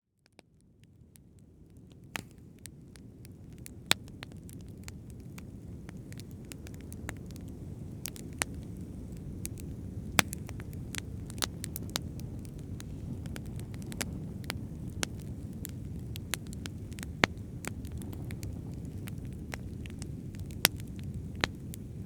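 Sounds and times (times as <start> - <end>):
fire crackling and popping: 0.2 - 22.0.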